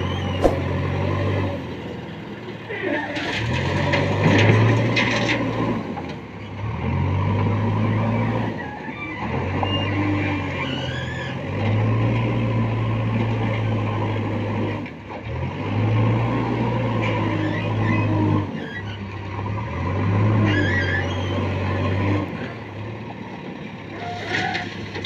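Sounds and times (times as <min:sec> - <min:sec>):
diesel engine revving: 0:00.0 - 0:02.4, 0:03.2 - 0:23.0.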